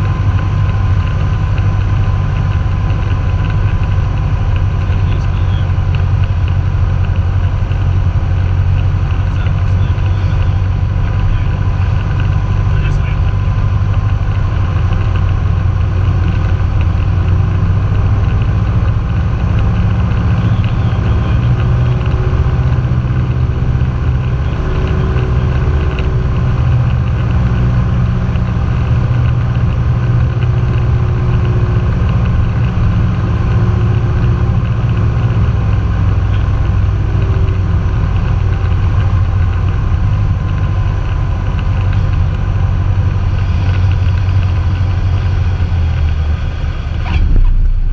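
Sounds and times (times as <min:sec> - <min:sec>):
airplane engine droning: 0:00.0 - 0:47.9.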